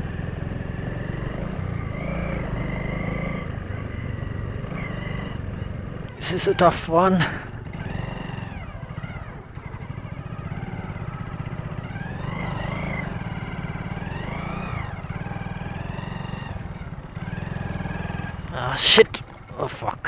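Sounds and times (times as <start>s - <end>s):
motorcycle engine revving: 0.0s - 6.3s, 7.1s - 18.6s, 19.2s - 20.0s.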